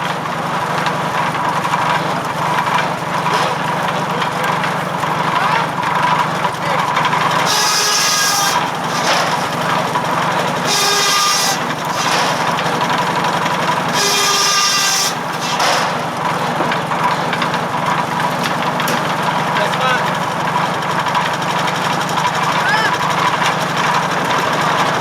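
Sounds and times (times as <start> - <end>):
circular saw cutting wood: 0.0 - 25.0
tractor engine running: 0.0 - 25.0.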